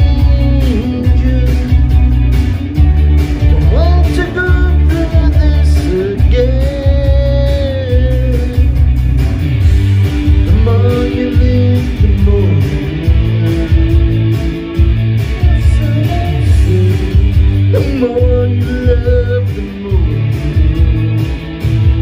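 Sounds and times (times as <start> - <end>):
man singing into microphone: 0.0 - 2.3, 3.5 - 8.8, 10.3 - 22.0
karaoke backing track with guitar: 0.0 - 22.0.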